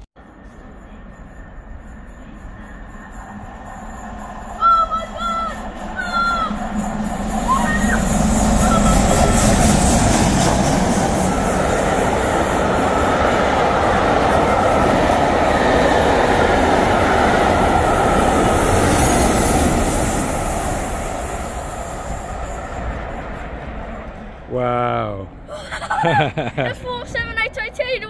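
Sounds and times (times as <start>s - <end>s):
train wheels rushing on rails: 0.0s - 28.0s.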